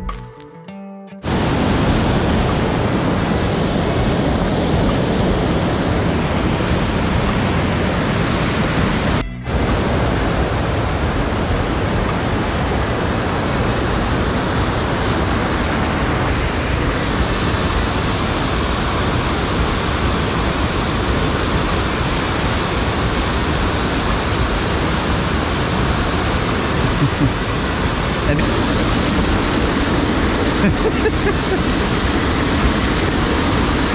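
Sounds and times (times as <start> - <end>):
waterfall and rapids rushing: 1.2 - 33.9.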